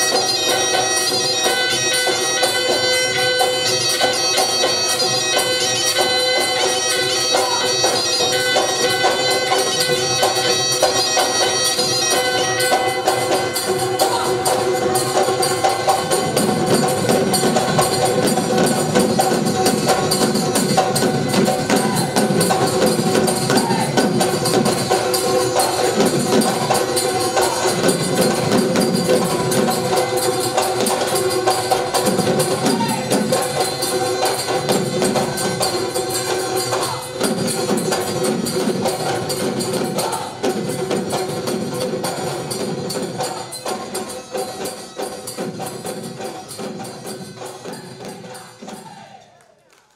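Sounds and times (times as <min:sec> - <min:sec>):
barrel drums beaten fast: 0:00.0 - 0:49.1.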